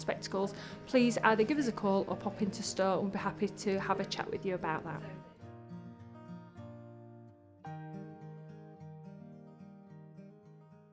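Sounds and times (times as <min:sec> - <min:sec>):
acoustic guitar music: 0:00.0 - 0:10.9.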